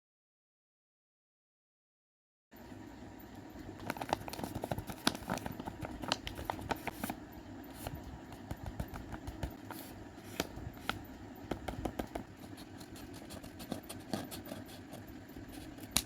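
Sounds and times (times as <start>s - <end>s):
low steady hum: 2.6s - 16.0s.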